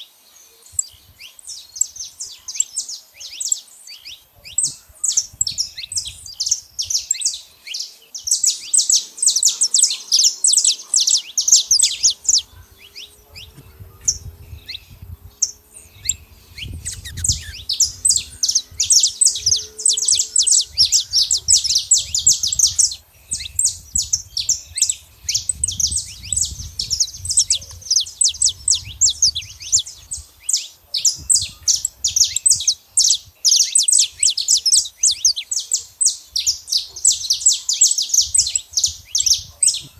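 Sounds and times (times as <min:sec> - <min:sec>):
finch singing trills: 0:00.0 - 0:39.9.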